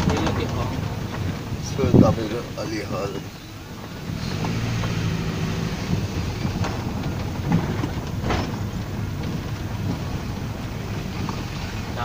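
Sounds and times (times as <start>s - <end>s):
bumps and knocks: 0.0s - 11.8s
car engine and road rumble: 0.0s - 12.0s.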